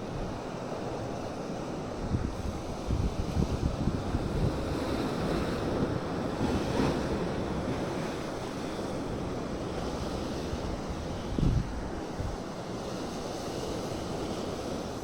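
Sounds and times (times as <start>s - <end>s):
ocean waves breaking: 0.0s - 15.0s
wind buffeting microphone: 1.8s - 15.0s.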